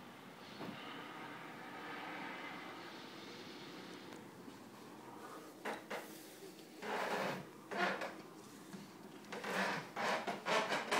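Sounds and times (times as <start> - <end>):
scraping and rubbing noises: 1.8 - 10.9.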